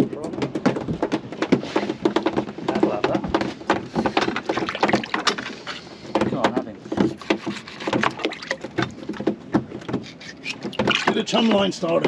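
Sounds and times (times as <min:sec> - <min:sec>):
sharp knocks and taps: 0:00.0 - 0:12.0.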